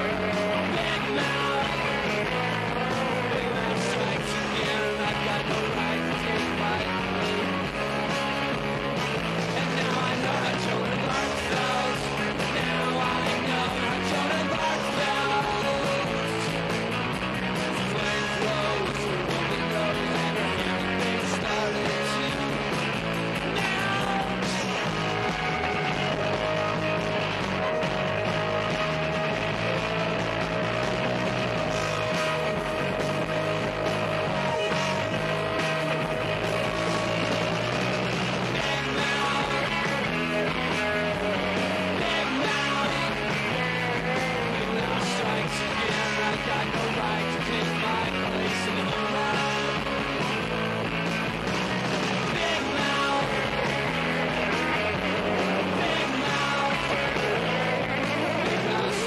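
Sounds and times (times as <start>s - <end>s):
rock music with guitar: 0.0s - 59.0s.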